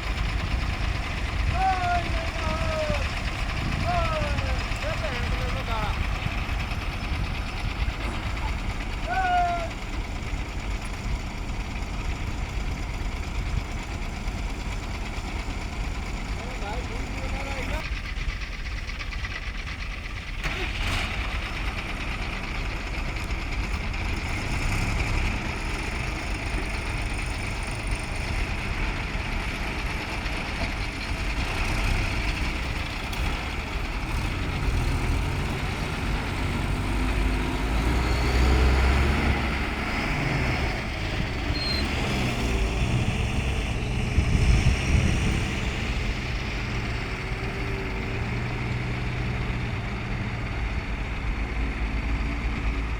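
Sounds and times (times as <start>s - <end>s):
heavy diesel engines running: 0.0s - 52.9s.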